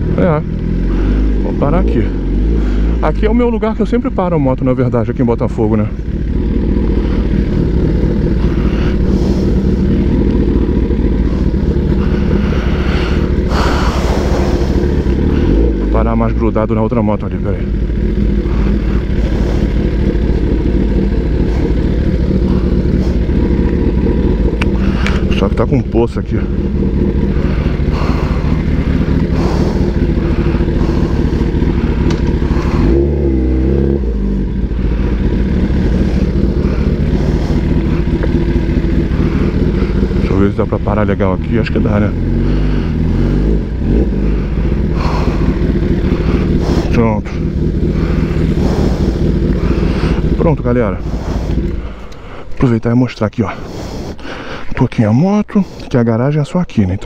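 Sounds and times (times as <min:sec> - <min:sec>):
motorcycle engine deep drone: 0:00.0 - 0:57.0.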